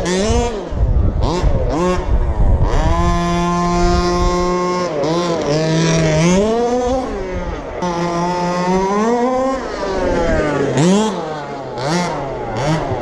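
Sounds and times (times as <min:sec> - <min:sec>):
small two-stroke engine revving: 0:00.0 - 0:13.0.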